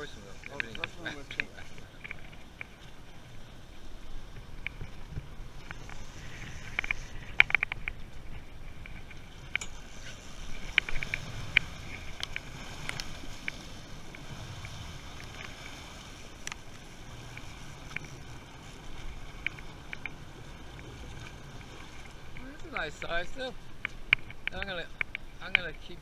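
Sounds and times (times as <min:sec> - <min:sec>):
water churning and splashing: 0:00.0 - 0:25.2
outboard motors running: 0:00.0 - 0:25.6.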